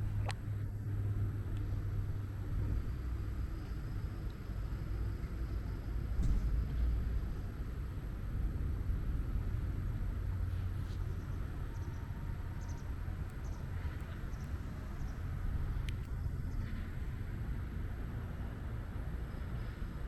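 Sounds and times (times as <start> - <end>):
outdoor background rumble: 0.0 - 20.0.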